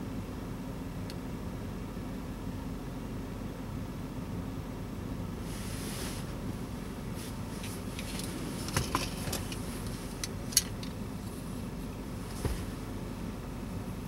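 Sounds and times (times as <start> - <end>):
low car cabin hum: 0.0 - 14.0.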